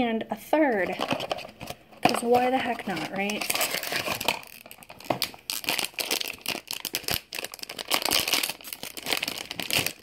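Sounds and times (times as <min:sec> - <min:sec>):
crinkly packaging rustling: 0:00.7 - 0:10.0.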